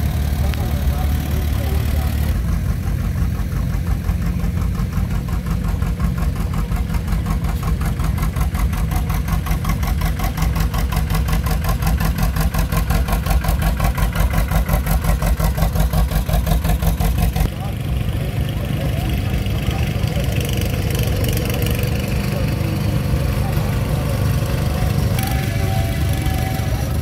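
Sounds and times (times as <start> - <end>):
old tractor engine running: 0.0 - 27.0.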